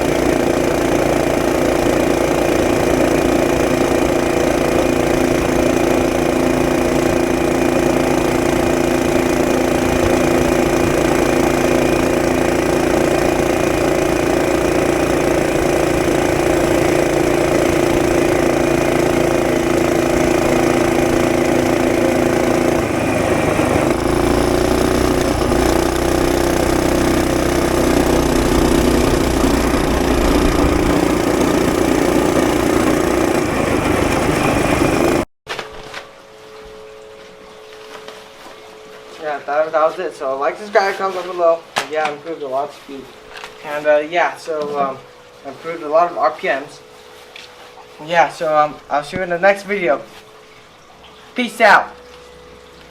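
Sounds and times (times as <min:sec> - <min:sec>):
small engine running: 0:00.0 - 0:35.3, 0:42.4 - 0:52.9.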